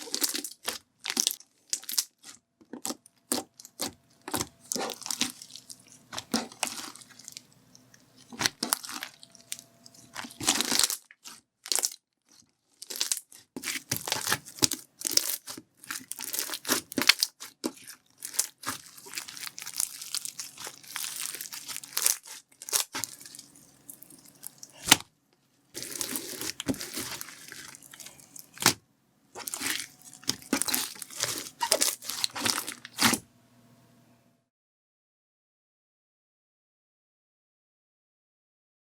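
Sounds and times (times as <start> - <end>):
slime squelching by hand: 0.0 - 25.0, 25.8 - 28.8, 29.4 - 33.2.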